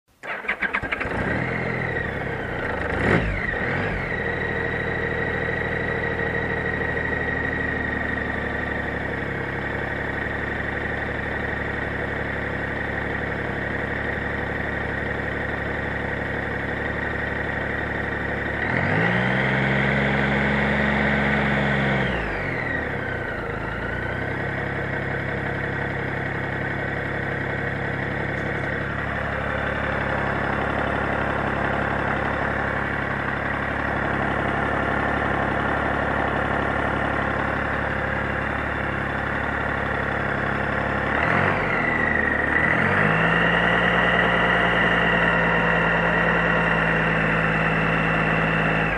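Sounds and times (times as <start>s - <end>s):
motorcycle engine idling and revving: 0.1s - 48.9s.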